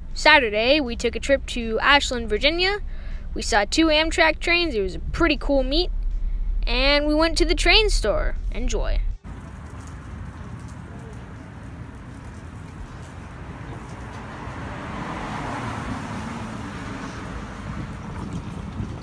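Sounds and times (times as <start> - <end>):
car passing: 0.0 - 19.0
road traffic hum: 0.0 - 19.0.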